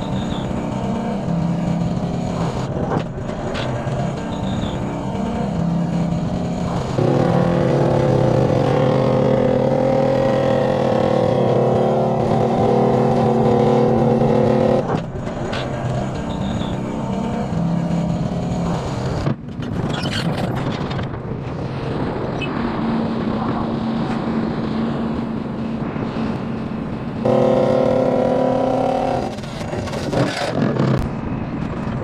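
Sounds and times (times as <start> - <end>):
vibratory pile hammer droning: 0.0 - 19.4, 22.0 - 31.9
excavator diesel engine running: 0.0 - 19.8, 22.8 - 32.0.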